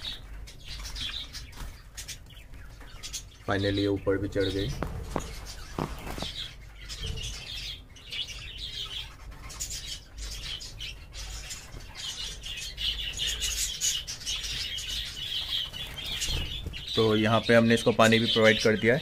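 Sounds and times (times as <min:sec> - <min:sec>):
budgerigars chirping and chattering: 0:00.0 - 0:19.0.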